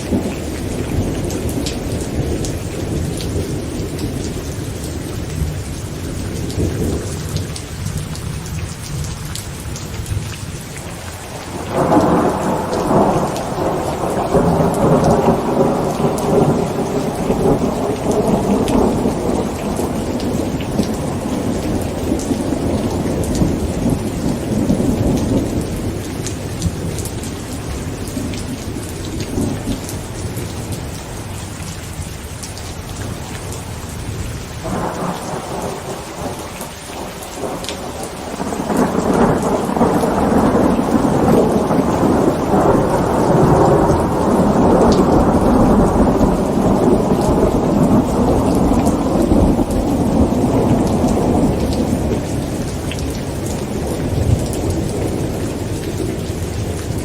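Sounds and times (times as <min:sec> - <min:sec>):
thunder rumbling: 0:00.0 - 0:08.0, 0:11.2 - 0:31.3, 0:33.0 - 0:57.0
heavy rain drumming on a tent: 0:00.0 - 0:57.0.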